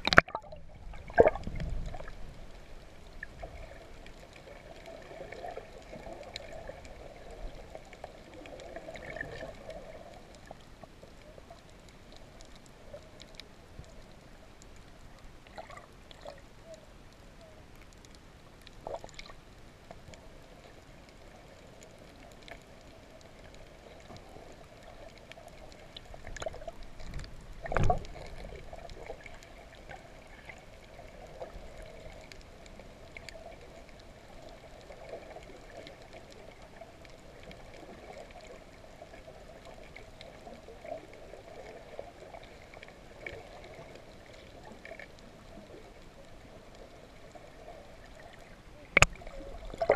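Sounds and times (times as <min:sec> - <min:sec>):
faint clicks and crackles: 0:00.0 - 0:49.9
underwater water noise: 0:00.0 - 0:49.9.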